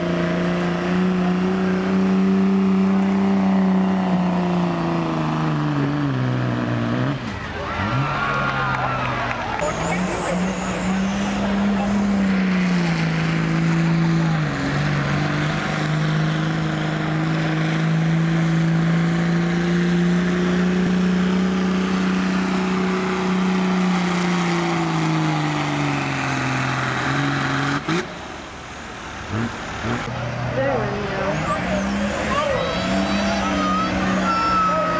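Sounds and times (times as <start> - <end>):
diesel truck engine under load: 0.0 - 34.9.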